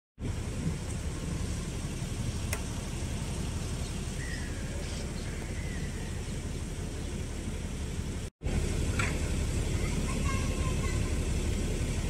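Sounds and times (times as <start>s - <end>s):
low outdoor rumble: 0.2s - 12.0s.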